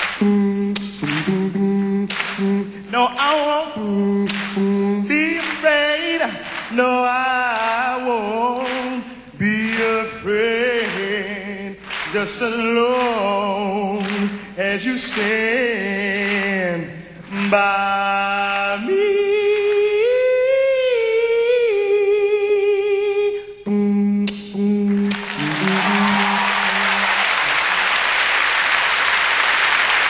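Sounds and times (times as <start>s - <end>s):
man singing a cappella: 0.0s - 27.1s.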